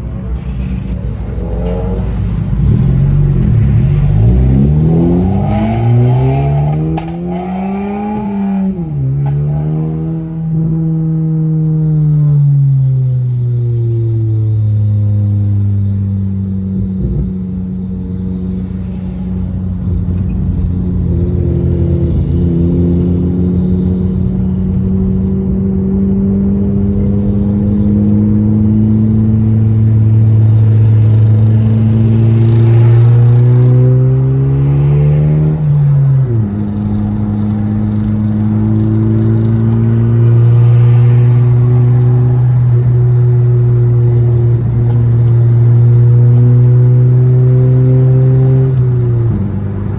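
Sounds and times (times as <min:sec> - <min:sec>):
car engine droning: 0:00.0 - 0:49.9.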